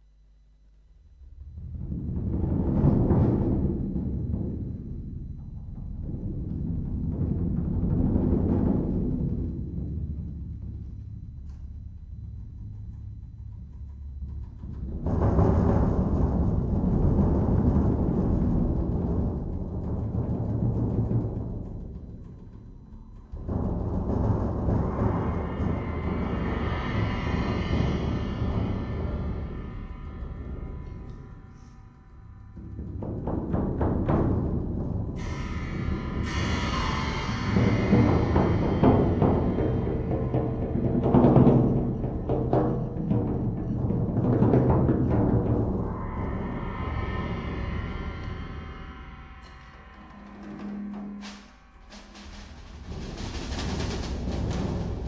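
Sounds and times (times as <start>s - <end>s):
bass drum roll with soft mallets: 1.0s - 55.0s.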